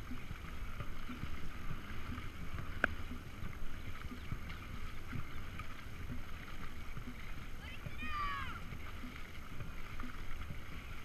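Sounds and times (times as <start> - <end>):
paddles pulling through water: 0.0 - 11.0
water splashing along hull: 0.0 - 11.0.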